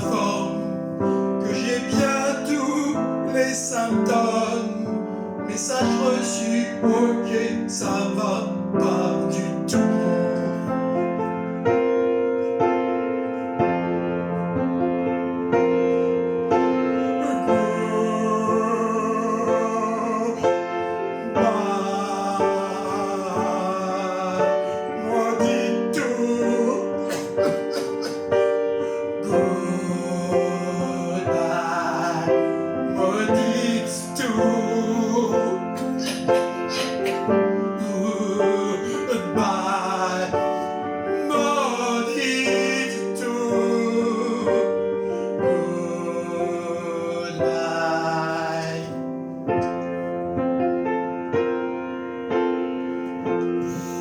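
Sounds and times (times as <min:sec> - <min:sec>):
person singing: 0:00.0 - 0:11.2, 0:17.0 - 0:49.2
piano accompaniment: 0:00.0 - 0:54.0.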